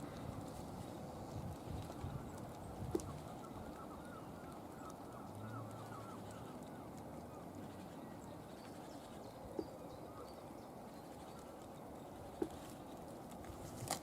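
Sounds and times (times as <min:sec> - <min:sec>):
bird calling faintly: 0:00.0 - 0:14.0.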